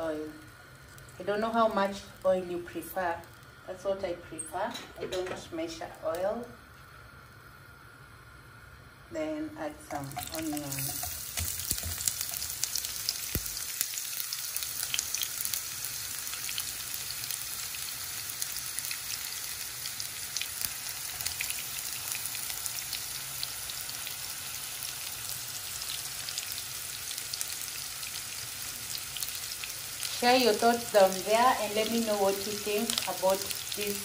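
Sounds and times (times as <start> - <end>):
onions sizzling in hot oil: 0.0 - 4.7, 5.4 - 34.0.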